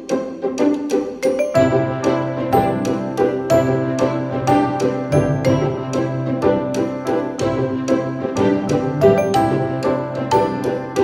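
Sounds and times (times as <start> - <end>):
music with bouncy beat: 0.1 - 11.0.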